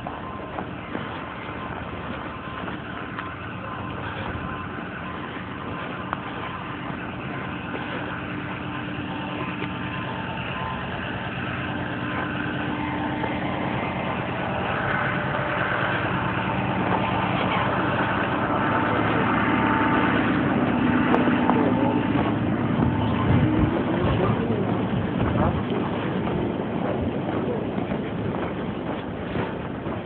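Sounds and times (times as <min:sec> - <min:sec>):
street noise: 0:00.0 - 0:30.0
vehicle engine running: 0:00.0 - 0:30.0.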